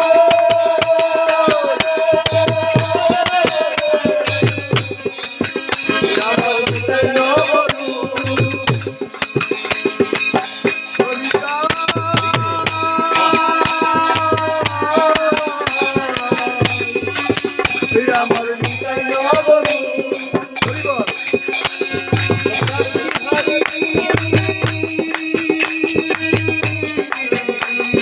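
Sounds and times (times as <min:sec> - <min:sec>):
fast rhythmic percussion: 0:00.0 - 0:28.0
hand drum: 0:00.0 - 0:28.0
man singing devotional song: 0:00.0 - 0:28.0.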